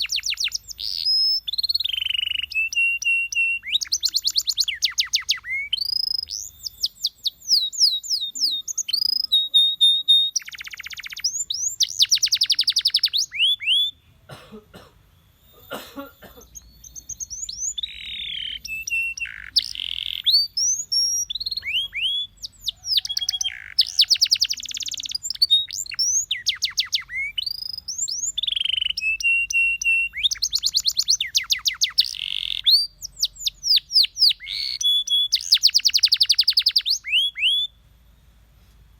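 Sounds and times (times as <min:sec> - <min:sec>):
canary singing trills: 0:00.0 - 0:14.3, 0:15.0 - 0:38.2.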